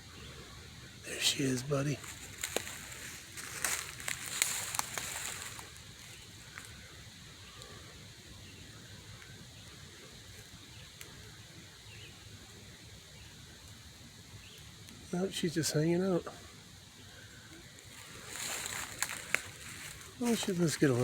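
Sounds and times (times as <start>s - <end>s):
high buzz of insects: 0.0s - 21.0s
crackling rustles: 1.0s - 15.4s, 16.4s - 21.0s.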